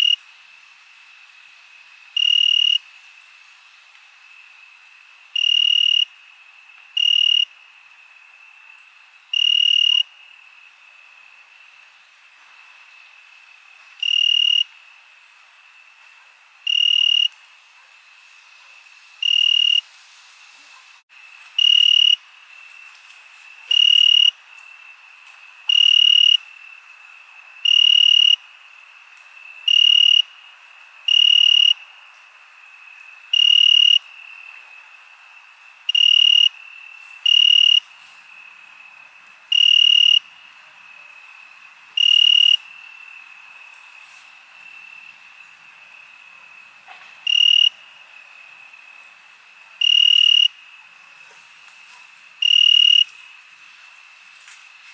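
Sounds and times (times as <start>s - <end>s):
faint chorus of crickets: 0.0s - 54.9s
loud cricket chirping trills: 0.0s - 54.9s.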